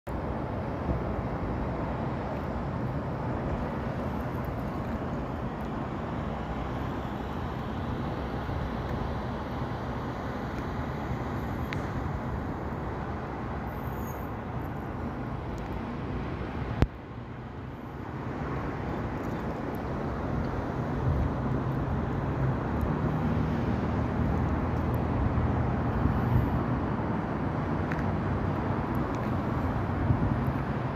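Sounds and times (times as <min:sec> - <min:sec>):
road traffic rumble: 0:00.0 - 0:30.9.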